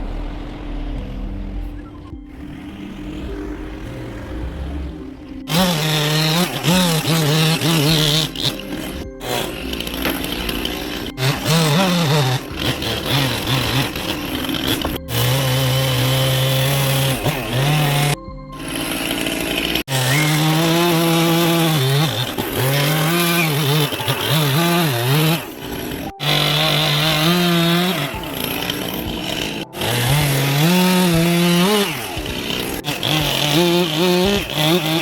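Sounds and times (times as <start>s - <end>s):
chainsaw carving wood: 2.3s - 35.0s.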